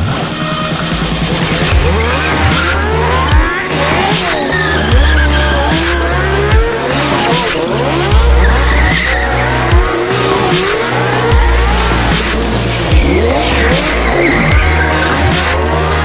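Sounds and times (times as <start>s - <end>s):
electronic dance music: 0.0s - 16.0s
motorcycle engines revving: 0.0s - 16.0s
tyres squealing: 0.0s - 16.0s.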